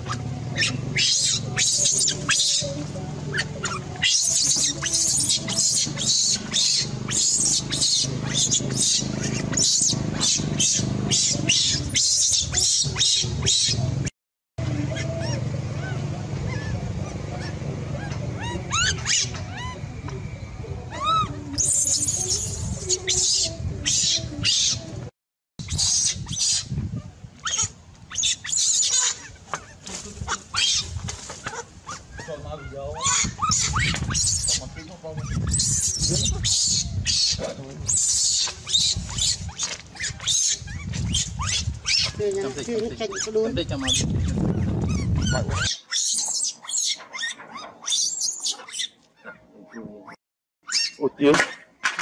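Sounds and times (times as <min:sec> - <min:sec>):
baby monkey screaming: 0:00.0 - 0:13.9, 0:14.8 - 0:19.9, 0:20.9 - 0:24.9, 0:25.6 - 0:49.8, 0:50.6 - 0:51.6.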